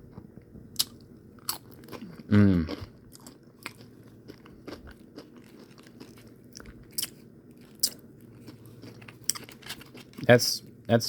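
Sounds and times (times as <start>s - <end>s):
tortilla chips crunching: 0.8s - 10.3s.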